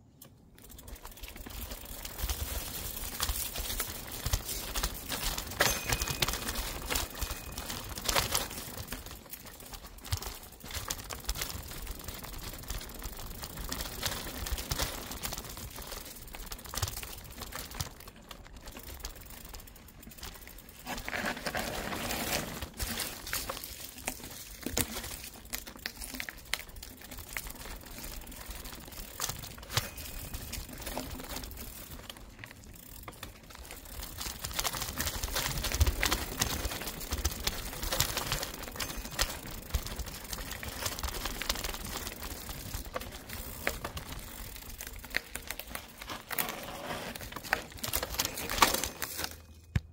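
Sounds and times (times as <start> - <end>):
bike clicks and knocks: 0.0 - 49.9
bike tyres crunching over leaves: 0.6 - 49.8.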